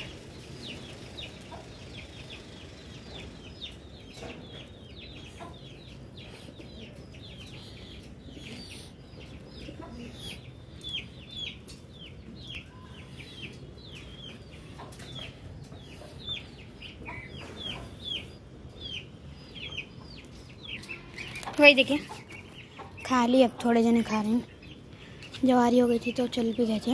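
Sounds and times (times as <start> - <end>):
low background hum: 0.0 - 26.9
small birds peeping: 0.0 - 26.9.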